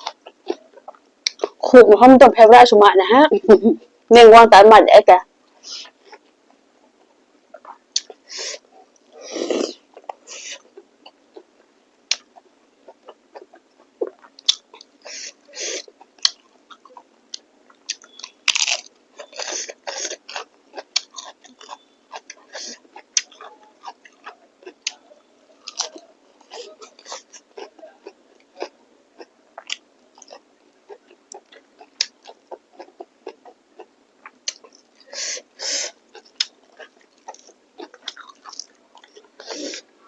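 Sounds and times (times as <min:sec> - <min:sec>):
person chewing food: 0:00.0 - 0:01.6, 0:05.6 - 0:40.0.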